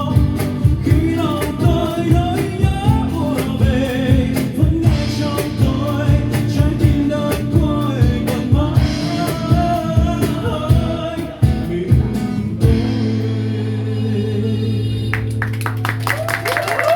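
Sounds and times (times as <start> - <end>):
song with singing and guitar: 0.0 - 16.3.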